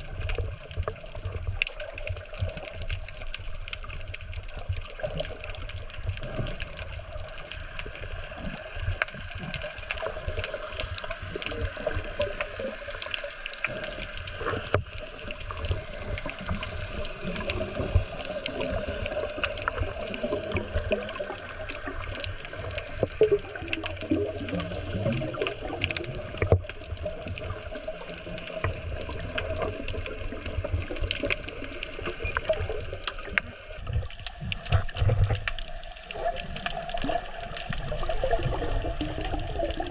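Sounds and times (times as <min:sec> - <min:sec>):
clicks and crackles: 0:00.0 - 0:39.9
muffled underwater water wash: 0:00.0 - 0:39.9.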